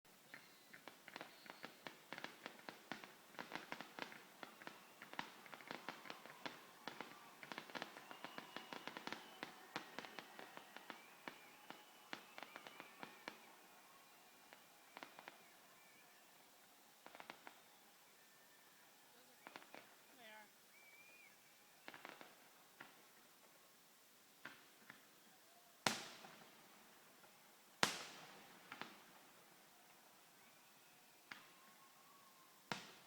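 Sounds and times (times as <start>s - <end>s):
fireworks popping and crackling: 0.1s - 23.7s, 24.3s - 33.0s.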